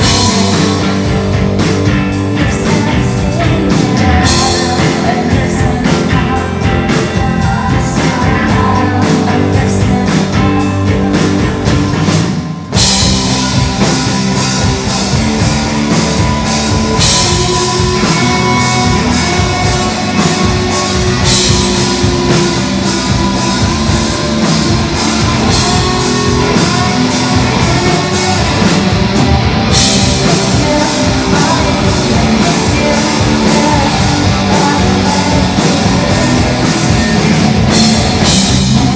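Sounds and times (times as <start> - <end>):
loud rock music: 0.0 - 38.9.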